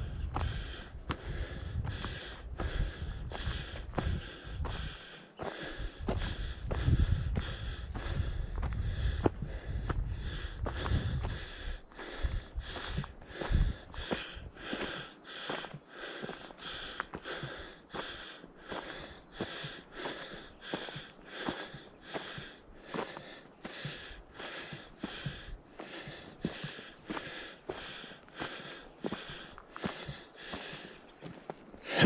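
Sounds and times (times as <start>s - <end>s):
footsteps on trail: 0.0s - 32.0s
person breathing hard: 0.0s - 32.0s.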